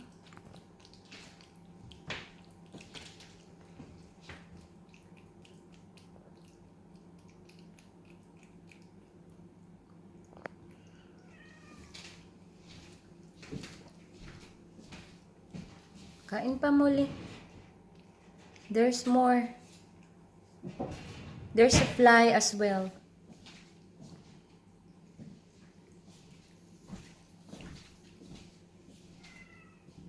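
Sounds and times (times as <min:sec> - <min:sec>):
cat chewing and licking: 0:00.0 - 0:20.7, 0:23.1 - 0:29.3.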